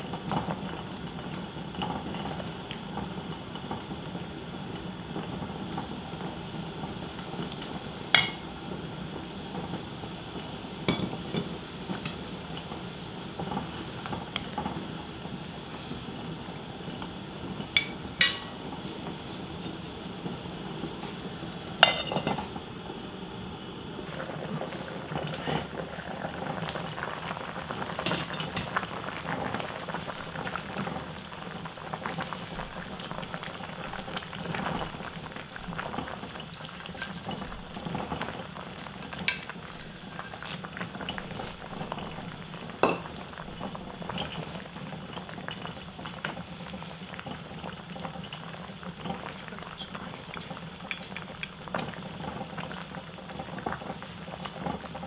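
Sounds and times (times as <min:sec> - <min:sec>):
stew boiling and bubbling: 0:00.0 - 0:55.0.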